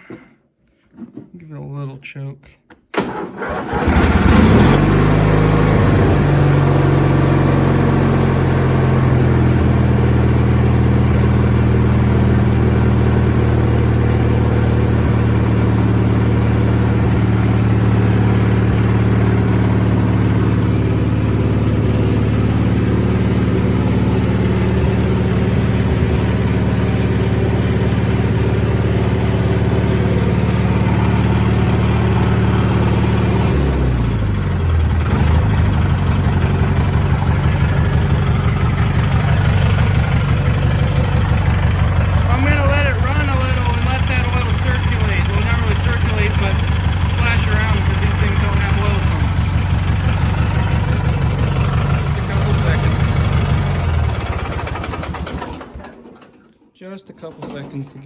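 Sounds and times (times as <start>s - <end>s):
garden tractor engine starting: 2.9s - 58.0s.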